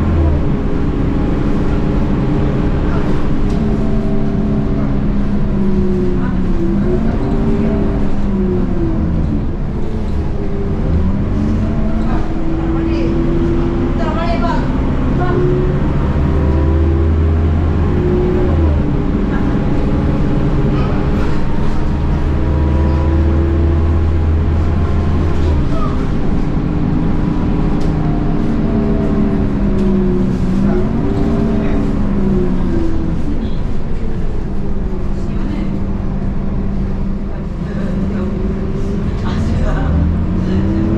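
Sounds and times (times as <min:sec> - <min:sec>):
bus diesel engine shifting gears: 0:00.0 - 0:40.9.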